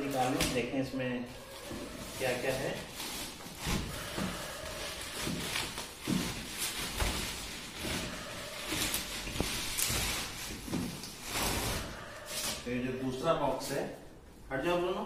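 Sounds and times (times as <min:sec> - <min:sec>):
plastic sack rustling: 0:01.3 - 0:13.9.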